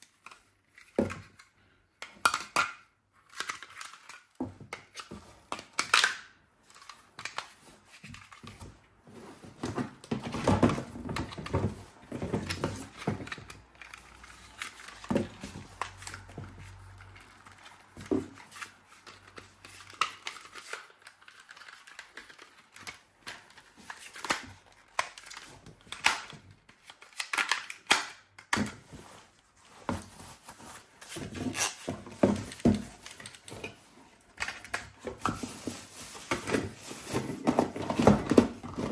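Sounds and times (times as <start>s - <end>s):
packaging rustling and tearing: 2.2s - 38.9s.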